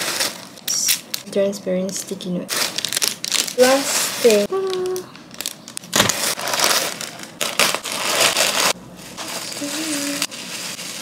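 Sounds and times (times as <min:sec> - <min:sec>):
bubble wrap crinkling: 0:00.0 - 0:01.3, 0:02.5 - 0:11.0.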